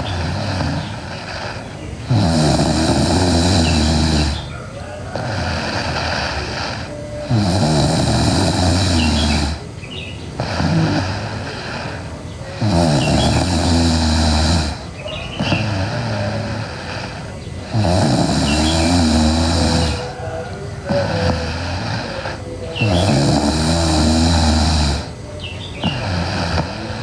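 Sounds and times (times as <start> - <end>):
breathing: 0.0 - 27.0
girl snoring loudly: 0.0 - 27.0.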